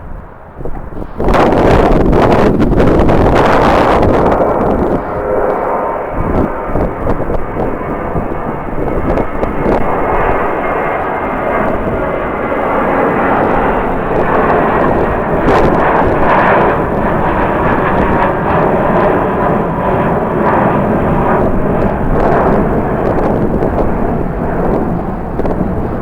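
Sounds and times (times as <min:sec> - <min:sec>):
jet engines running: 0:00.0 - 0:26.0
wind buffeting microphone: 0:00.0 - 0:26.0.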